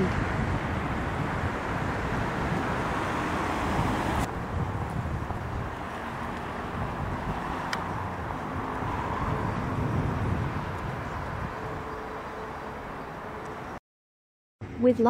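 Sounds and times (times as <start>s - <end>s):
wind on the microphone: 0.0s - 12.2s
traffic noise: 0.0s - 13.8s.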